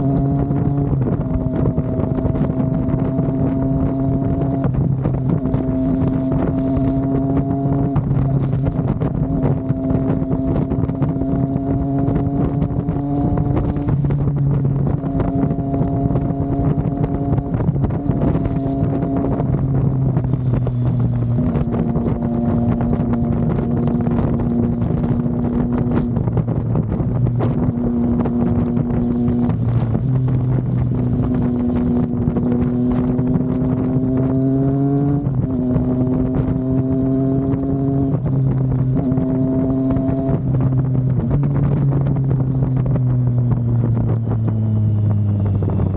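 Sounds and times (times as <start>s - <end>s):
motorcycle engine running: 0.0s - 45.9s
wind rushing over microphone: 0.0s - 45.9s.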